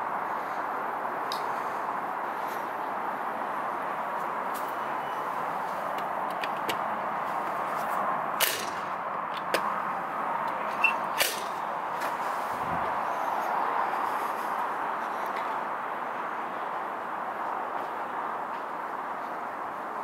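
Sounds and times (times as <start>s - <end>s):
background noise: 0.0s - 20.0s.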